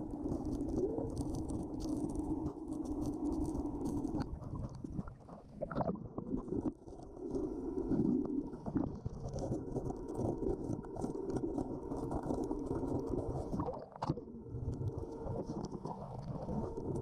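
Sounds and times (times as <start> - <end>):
muffled underwater noise: 0.0 - 17.0.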